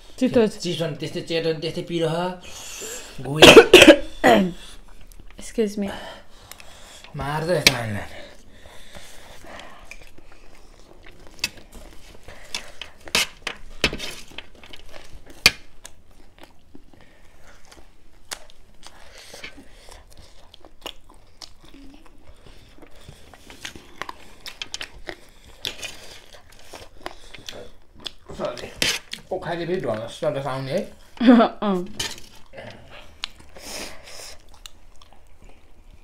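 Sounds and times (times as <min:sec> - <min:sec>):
people chewing crunchy snack: 0:06.1 - 0:36.0.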